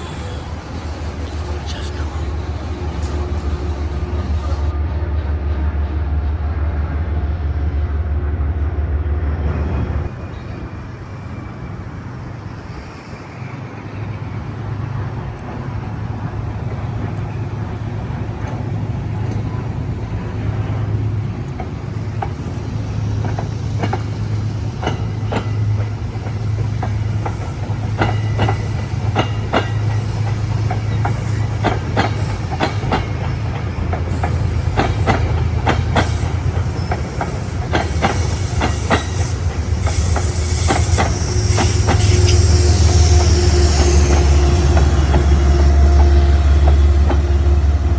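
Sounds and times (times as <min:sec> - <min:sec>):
train passing with low rumble: 0:00.0 - 0:47.9.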